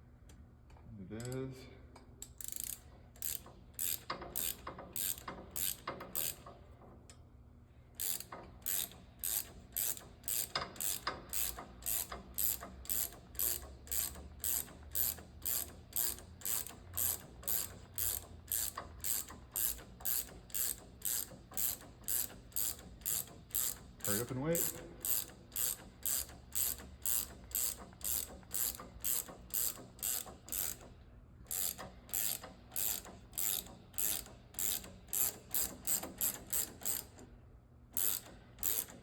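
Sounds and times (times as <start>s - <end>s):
ratchet wrench clicking: 2.2s - 6.5s, 8.0s - 30.9s, 31.5s - 37.2s, 38.0s - 39.0s.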